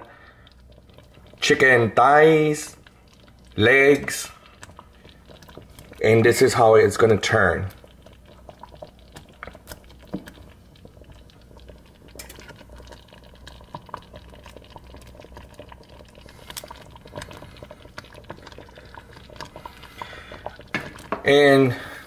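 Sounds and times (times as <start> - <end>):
low steady hum: 0.0 - 22.0
sauce bubbling with small pops: 0.0 - 22.0.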